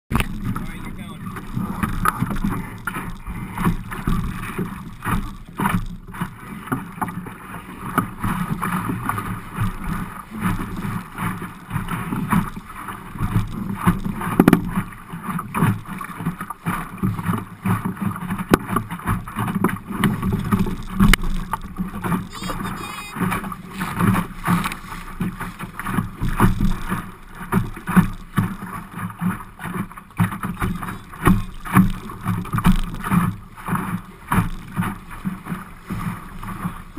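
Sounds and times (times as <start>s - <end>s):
water slapping against hull: 0.1s - 36.9s.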